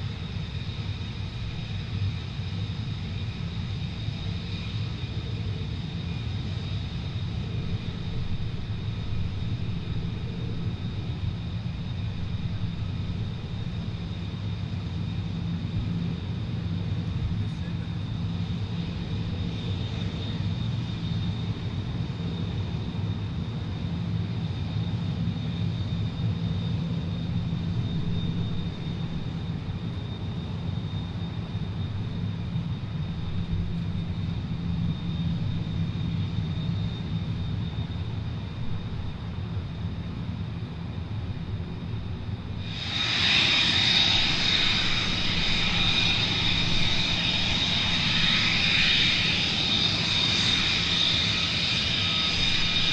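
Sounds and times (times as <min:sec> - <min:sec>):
jet engine whine and rumble: 0:00.0 - 0:52.9.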